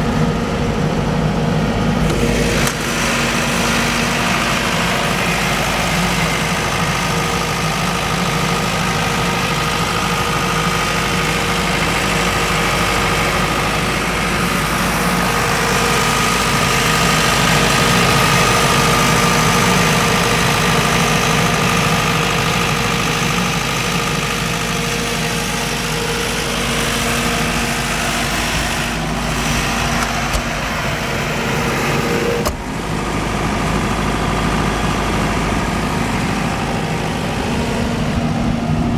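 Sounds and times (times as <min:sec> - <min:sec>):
diesel generator humming: 0:00.0 - 0:38.9.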